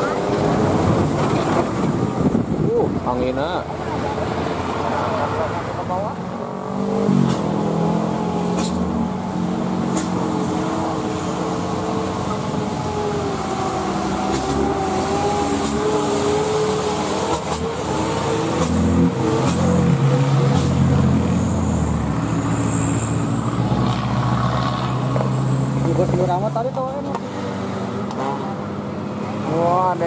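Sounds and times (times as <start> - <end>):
cars and motorbikes passing: 0.0 - 30.0
truck engine passing: 0.0 - 30.0.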